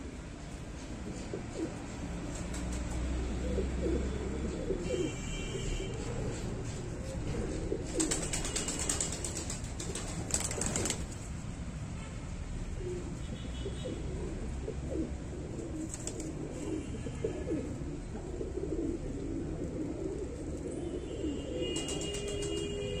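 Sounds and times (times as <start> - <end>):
pigeons cooing: 1.0 - 11.0, 12.7 - 22.6.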